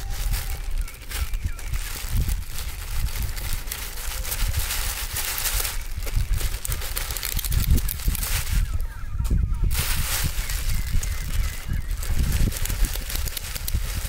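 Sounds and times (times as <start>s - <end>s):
plastic bags crinkling: 0.0s - 9.0s, 9.6s - 14.0s.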